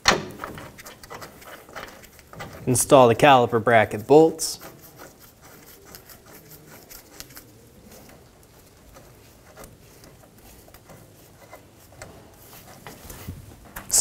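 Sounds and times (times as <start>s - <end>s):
faint clicks and rubbing: 0.1s - 14.0s.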